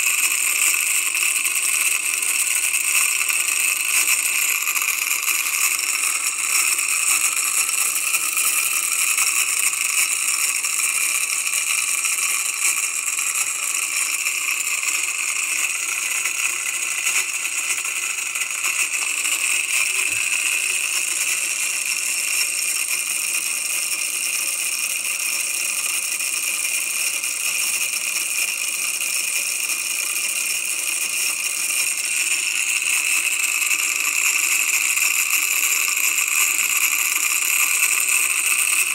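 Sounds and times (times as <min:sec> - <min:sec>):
electric motor rattling buzz: 0:00.0 - 0:38.9.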